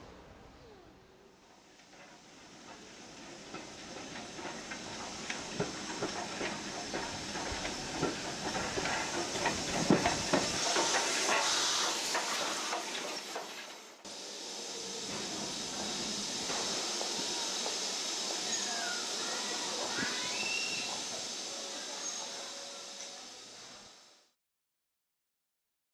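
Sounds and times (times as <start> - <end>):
steam hissing: 0.0 - 24.4
steam locomotive passing: 0.0 - 24.4
wheels clicking over rail joints: 1.5 - 14.0, 15.0 - 23.4.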